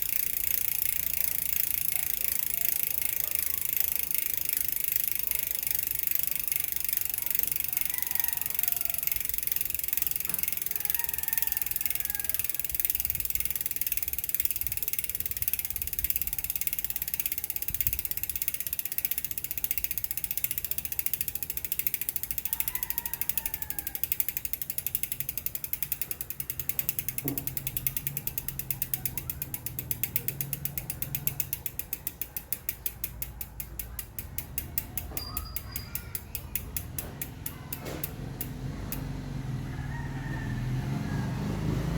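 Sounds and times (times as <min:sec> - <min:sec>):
bicycle freehub ticking: 0:00.0 - 0:40.8.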